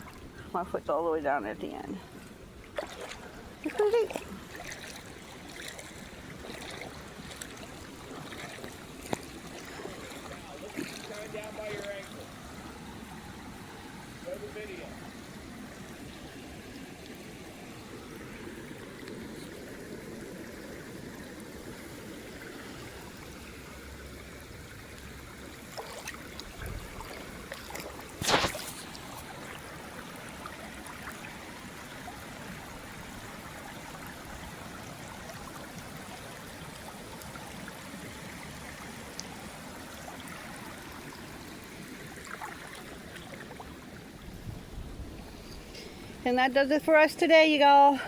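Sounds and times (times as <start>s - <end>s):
floodwater running: 0.0s - 48.0s.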